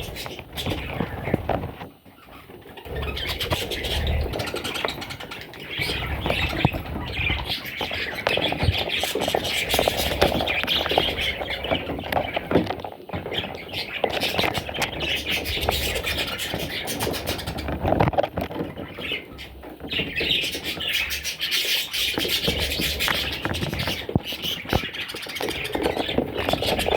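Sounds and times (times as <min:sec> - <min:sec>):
budgerigars squawking and chattering: 0:00.0 - 0:26.9.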